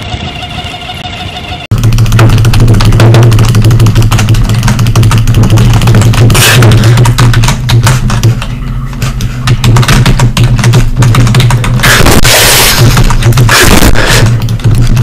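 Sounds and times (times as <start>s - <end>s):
bass-heavy music with fast beat: 1.7s - 15.0s.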